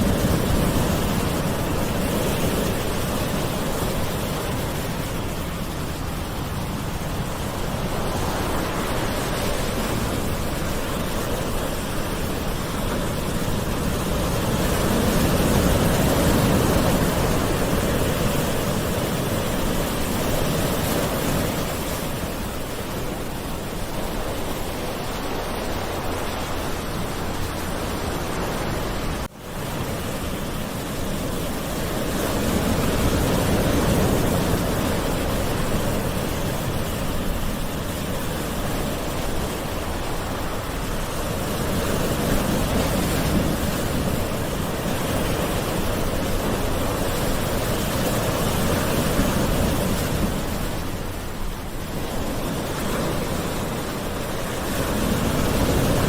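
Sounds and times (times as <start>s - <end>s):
gentle ocean surf: 0.0s - 56.0s.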